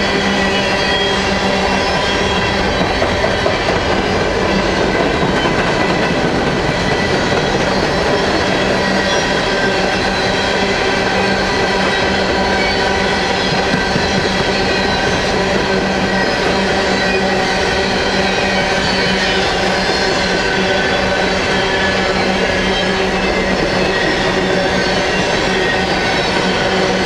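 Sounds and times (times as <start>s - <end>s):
steel wheels rolling on rail: 0.0s - 27.0s.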